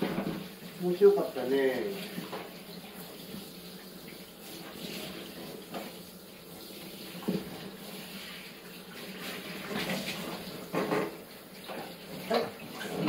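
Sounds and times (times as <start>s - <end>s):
shower water running: 0.0s - 13.0s.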